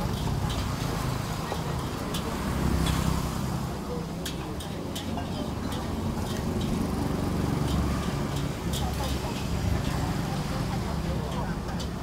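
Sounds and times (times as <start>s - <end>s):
street traffic rumble: 0.0s - 12.0s
utensils clinking against bowls: 0.0s - 12.0s.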